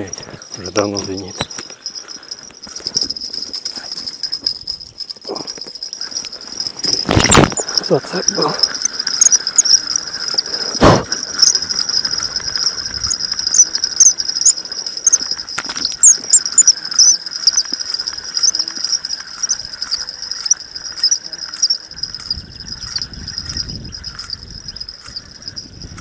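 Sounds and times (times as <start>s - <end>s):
faint rustle: 0.0s - 26.0s
high insect trilling: 0.0s - 26.0s.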